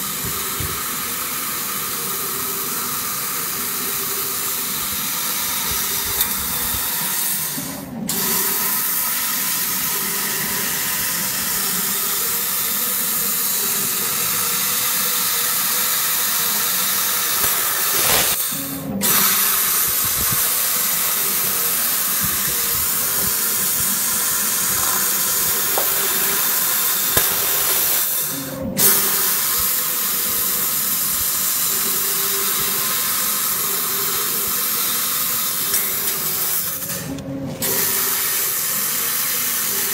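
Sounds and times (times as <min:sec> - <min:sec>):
laser cutter hissing: 0:00.0 - 0:39.9.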